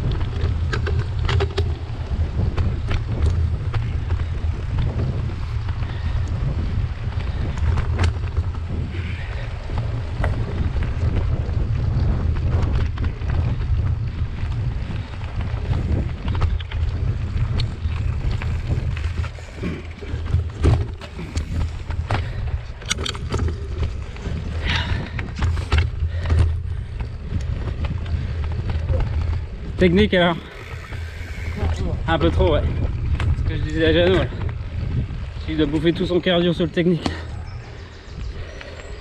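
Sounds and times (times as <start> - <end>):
bike knocks and rattles: 0.0 - 37.3
wind and trail vibration rumble: 0.0 - 39.0.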